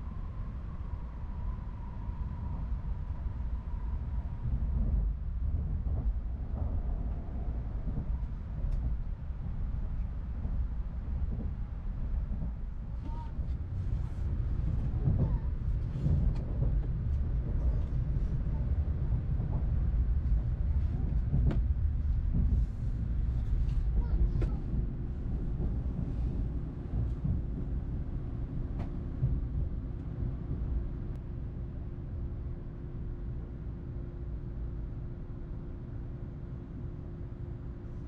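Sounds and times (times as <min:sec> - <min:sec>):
train cabin rumble: 0:00.0 - 0:38.0.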